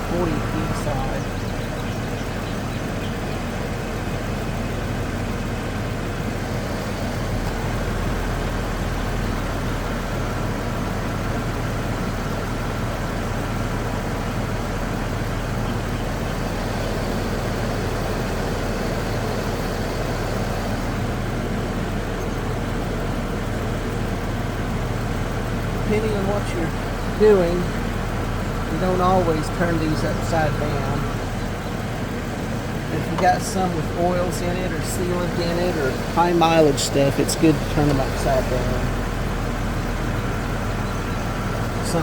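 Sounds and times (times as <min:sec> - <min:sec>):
air-conditioning compressor running: 0:00.0 - 0:42.0
car engine idling: 0:00.0 - 0:42.0.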